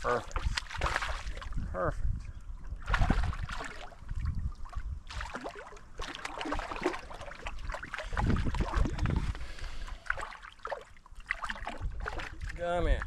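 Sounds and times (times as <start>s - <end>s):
wind buffeting microphone: 0.0s - 9.9s, 11.6s - 13.0s
lake water lapping on rocks: 0.0s - 13.0s.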